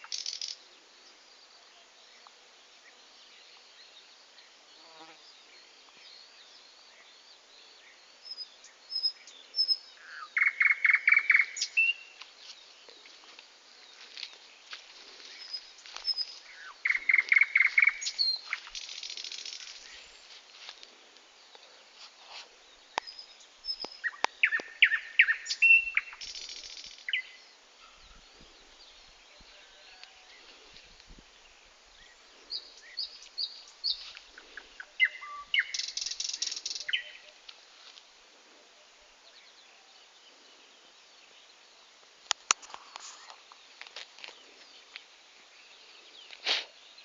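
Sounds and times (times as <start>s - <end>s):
songbirds singing: 0.0s - 47.0s.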